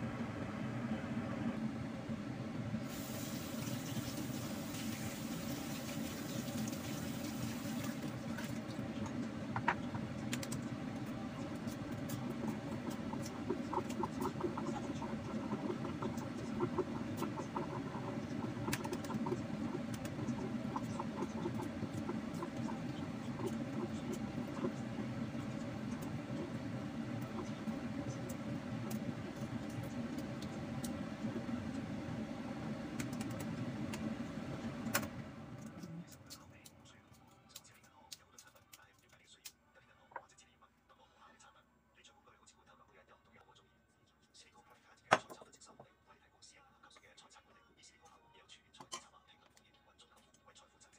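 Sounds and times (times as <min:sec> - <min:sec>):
steady low hum: 0:00.0 - 0:45.1.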